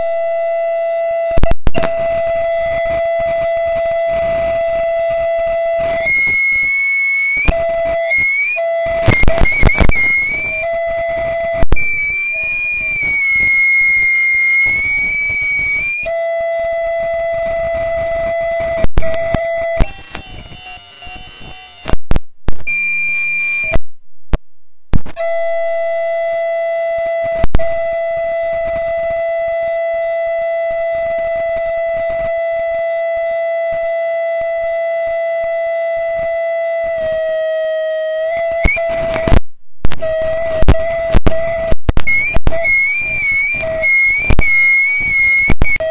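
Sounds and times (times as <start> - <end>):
audio feedback howling: 0.0 - 45.9.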